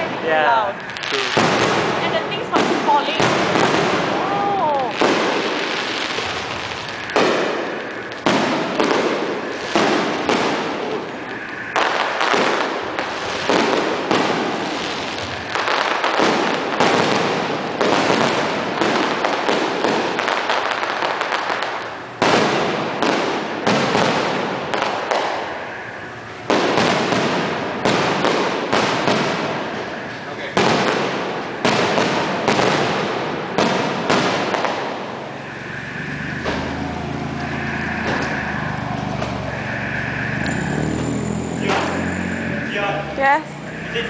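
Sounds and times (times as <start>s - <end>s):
fireworks shells bursting: 0.0s - 42.8s
rumbling crackling echo: 0.0s - 44.0s.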